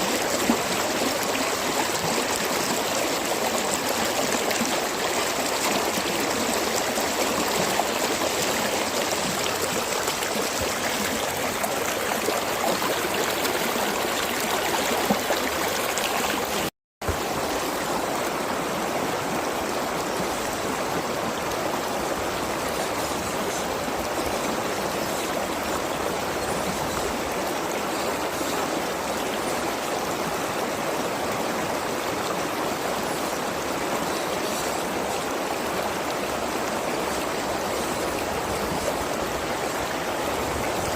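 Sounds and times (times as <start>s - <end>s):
stream flowing and gurgling: 0.0s - 40.9s.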